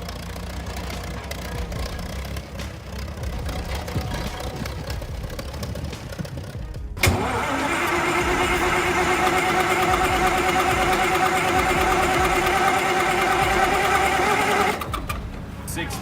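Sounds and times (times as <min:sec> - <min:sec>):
diesel engine running: 0:00.0 - 0:16.0
quiet engine: 0:00.0 - 0:16.0.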